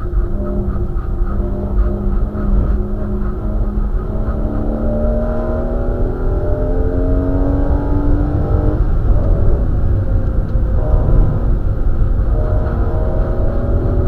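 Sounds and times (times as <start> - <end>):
car engine pulling hard: 0.0 - 14.0
low road and wind rumble: 0.0 - 14.0.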